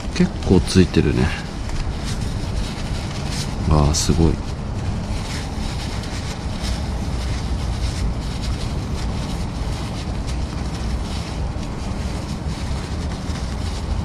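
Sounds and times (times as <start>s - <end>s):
paper towels crinkling: 0.0s - 14.0s
wind rumble on microphone: 0.0s - 14.0s.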